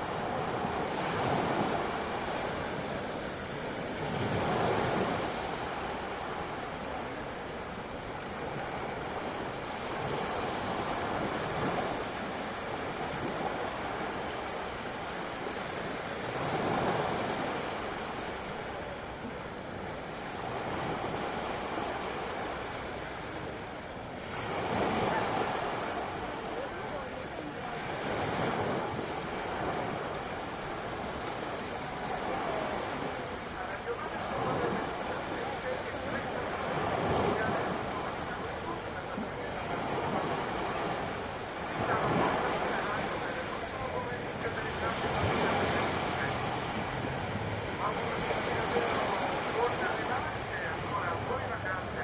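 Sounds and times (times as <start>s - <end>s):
waves breaking: 0.0s - 52.0s.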